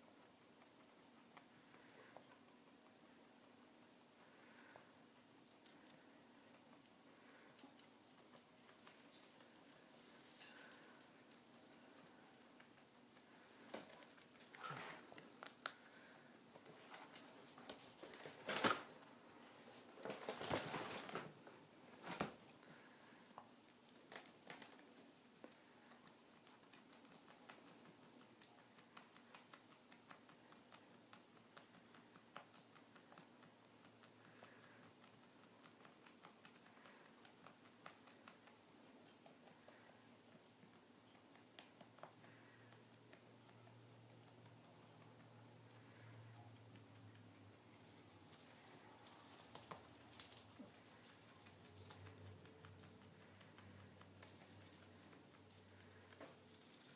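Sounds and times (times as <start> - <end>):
rabbit chewing crunching: 0.0 - 56.9.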